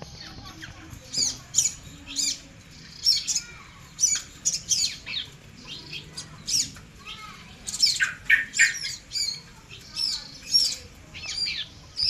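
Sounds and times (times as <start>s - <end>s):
nestling birds chirping: 0.0s - 12.0s.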